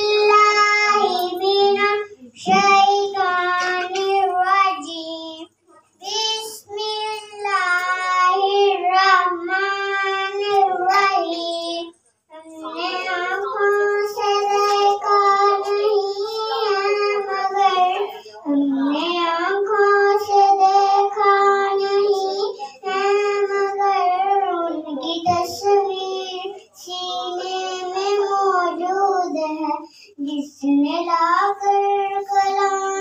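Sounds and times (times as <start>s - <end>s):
girl singing unaccompanied: 0.0s - 33.0s.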